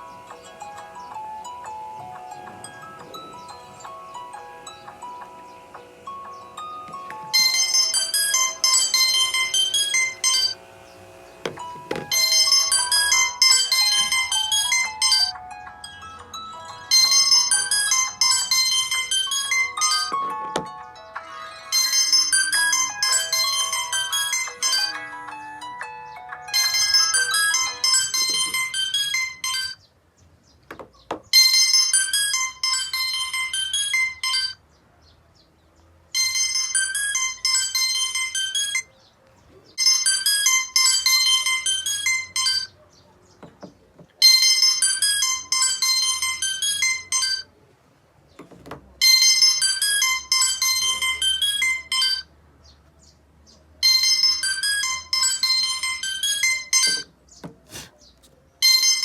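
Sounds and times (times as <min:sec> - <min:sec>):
phone ringtone melody: 0:00.0 - 0:10.7, 0:11.4 - 0:29.8, 0:31.4 - 0:34.6, 0:36.2 - 0:39.0, 0:39.8 - 0:42.7, 0:44.2 - 0:47.6, 0:49.0 - 0:52.3, 0:53.8 - 0:57.1, 0:58.6 - 0:59.0.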